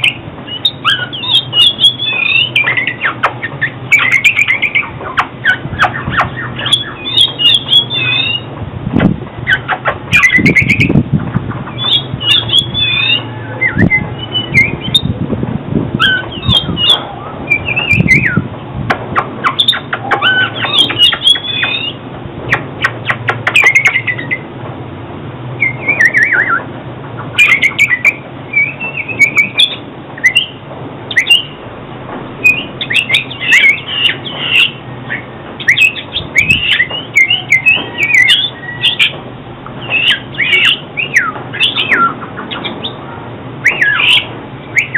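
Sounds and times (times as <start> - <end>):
bird singing whistled notes: 0.0 - 8.5, 9.4 - 11.0, 11.7 - 15.2, 16.0 - 18.5, 19.4 - 24.4, 25.6 - 26.7, 27.3 - 31.6, 32.4 - 39.1, 39.8 - 43.0, 43.6 - 44.9
steady low hum: 0.0 - 44.9.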